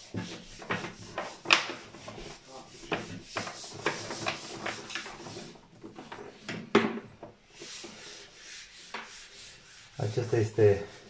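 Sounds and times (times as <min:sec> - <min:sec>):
cables rubbing and scraping on plastic: 0:00.0 - 0:11.0.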